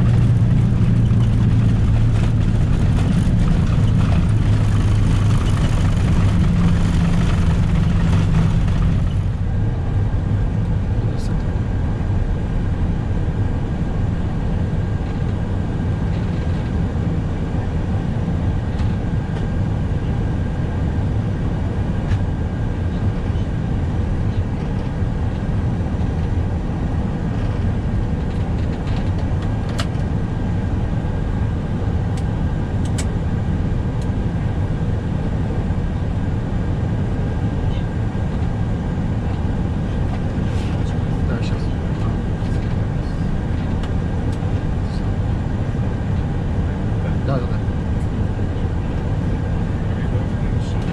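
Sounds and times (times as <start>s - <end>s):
airplane rolling on runway: 0.0s - 50.9s.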